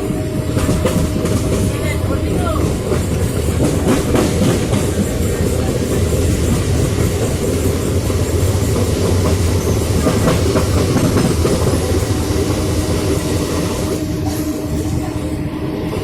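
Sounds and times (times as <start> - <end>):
suburban train running: 0.0 - 16.0
wheels clattering over rail joints: 0.5 - 14.0.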